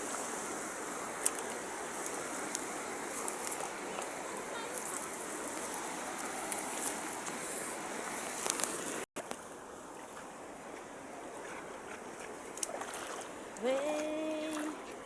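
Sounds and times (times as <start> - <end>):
flowing stream water: 0.0 - 15.0.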